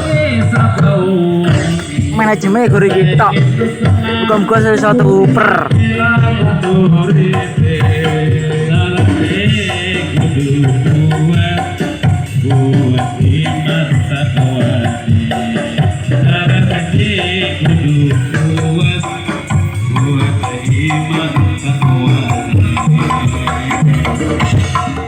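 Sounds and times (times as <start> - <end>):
instrumental music with hand drums: 0.0 - 25.0.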